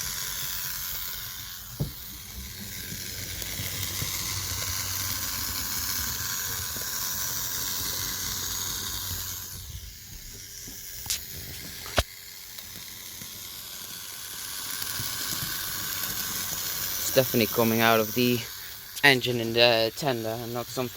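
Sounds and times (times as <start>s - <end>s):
model train motor whirring: 0.0s - 20.9s.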